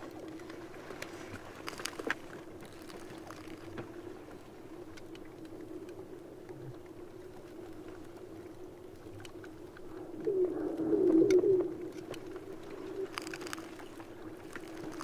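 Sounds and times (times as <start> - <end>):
faint ticks: 0.0 - 15.0.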